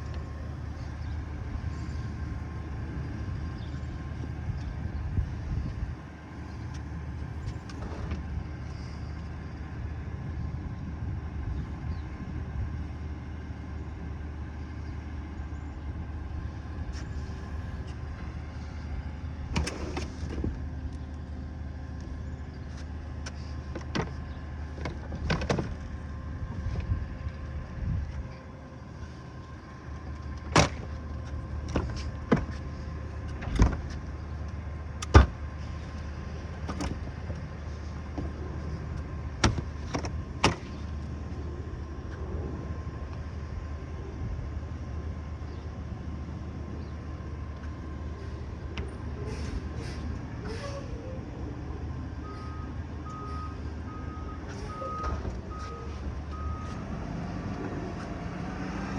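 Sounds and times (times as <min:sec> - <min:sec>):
garbage truck engine running: 0:00.0 - 0:58.9.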